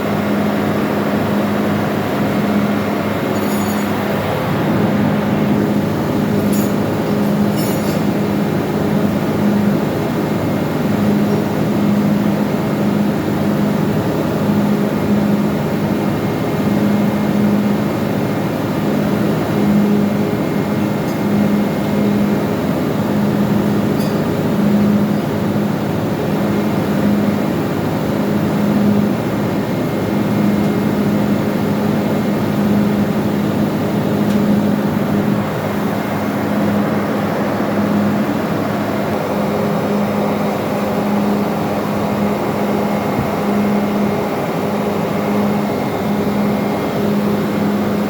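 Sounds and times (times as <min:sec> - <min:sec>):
engine room machinery noise: 0:00.0 - 0:48.0.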